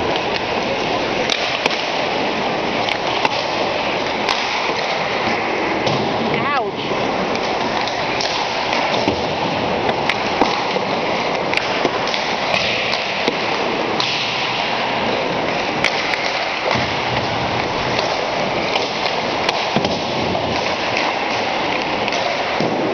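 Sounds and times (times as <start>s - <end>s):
pucks cracking off sticks: 0.0s - 22.9s
skate and arena noise: 0.0s - 22.9s.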